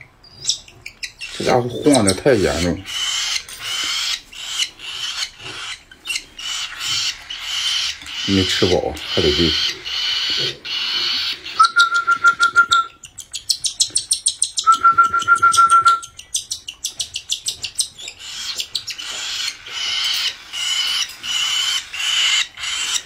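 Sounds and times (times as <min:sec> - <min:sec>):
parrot chick raspy begging calls: 0:00.3 - 0:14.8, 0:16.0 - 0:23.0.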